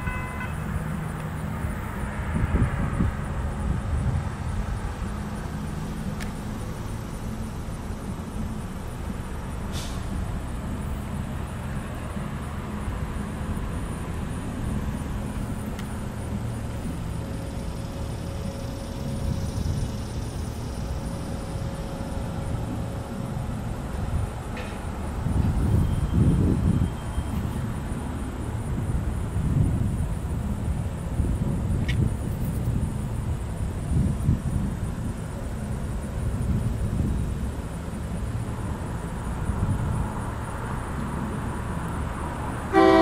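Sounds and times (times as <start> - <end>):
low rumble of vehicles: 0.0 - 43.0.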